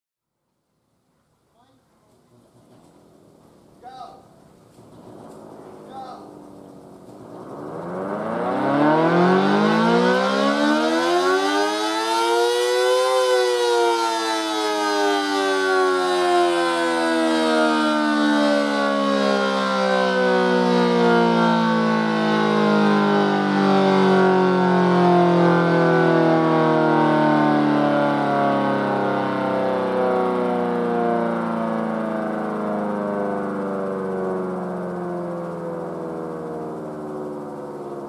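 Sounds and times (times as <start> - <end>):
siren wailing and winding down: 5.3 - 38.0.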